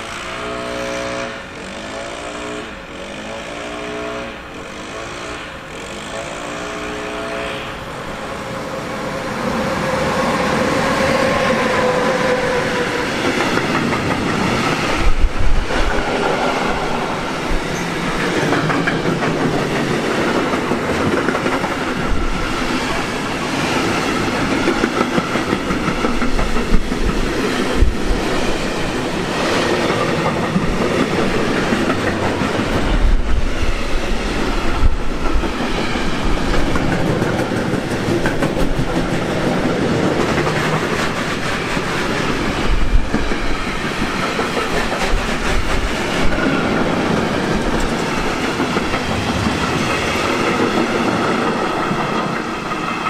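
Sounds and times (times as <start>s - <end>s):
train wheels clattering on rails: 8.5s - 53.0s.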